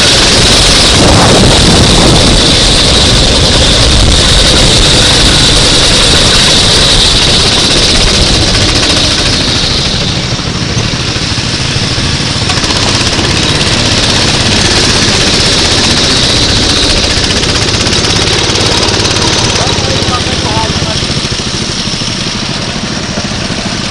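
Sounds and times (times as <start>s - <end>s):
racing kart engine running hard: 0.0s - 23.9s.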